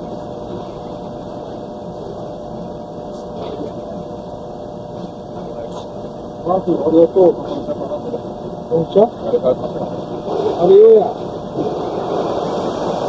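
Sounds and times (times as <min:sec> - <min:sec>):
steady mechanical noise: 0:00.0 - 0:13.0.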